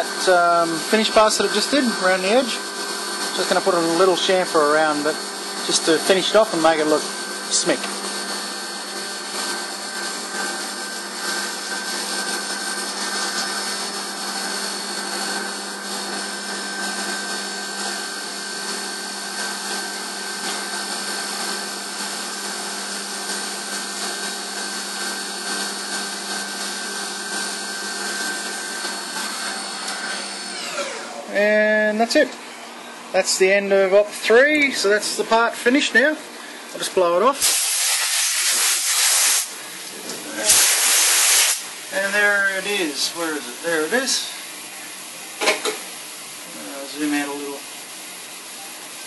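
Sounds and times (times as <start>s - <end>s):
milling machine spindle whine: 0.0s - 37.4s, 41.6s - 49.0s.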